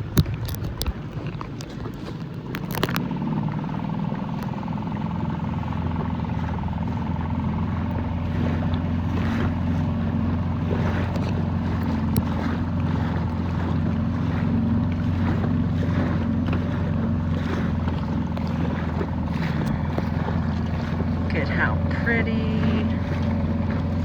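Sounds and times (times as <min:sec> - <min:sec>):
outboard motor running: 0:00.0 - 0:24.0
water splashing: 0:00.0 - 0:24.0.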